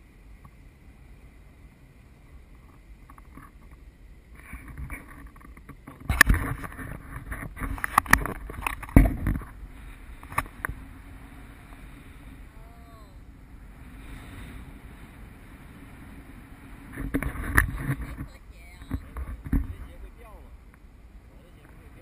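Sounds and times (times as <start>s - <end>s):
wind buffeting camera: 1.2s - 22.0s.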